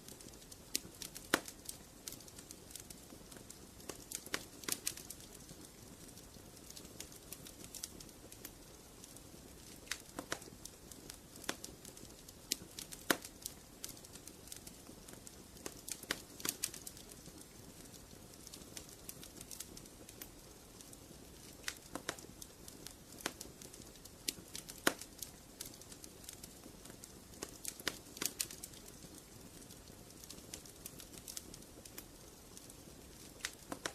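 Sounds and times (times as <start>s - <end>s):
wood fire crackling and popping: 0.0s - 33.9s.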